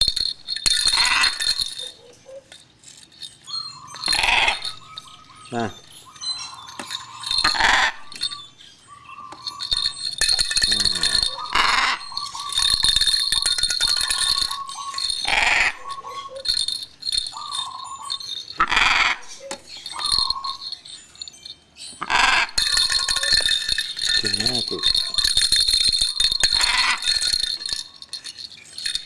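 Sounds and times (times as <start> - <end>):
high ringing: 0.0 - 29.0
parrot chattering and clicking: 0.0 - 29.0
parrot squawking: 3.5 - 20.8, 22.0 - 28.0.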